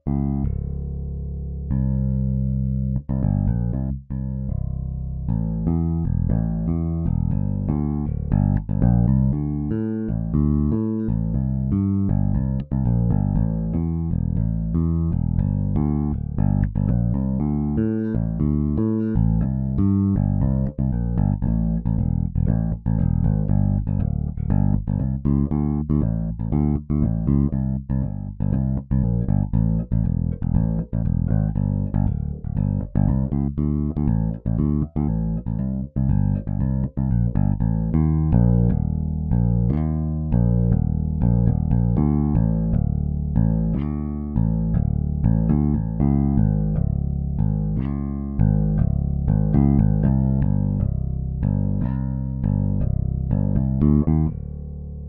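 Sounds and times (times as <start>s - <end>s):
electric bass grooves: 0.0s - 55.0s.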